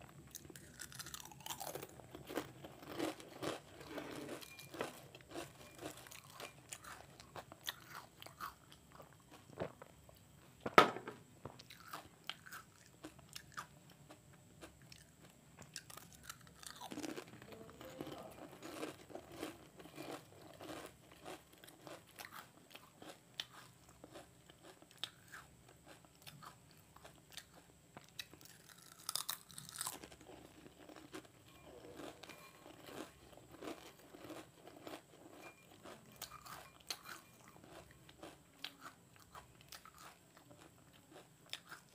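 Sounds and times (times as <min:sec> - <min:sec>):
crunching chips: 0:00.3 - 0:09.8, 0:14.8 - 0:41.9.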